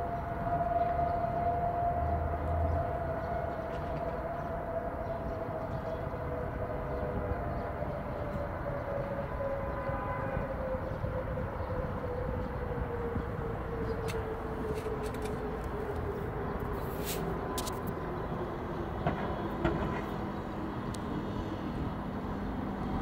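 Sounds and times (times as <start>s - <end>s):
air raid siren winding down: 0.0s - 23.0s.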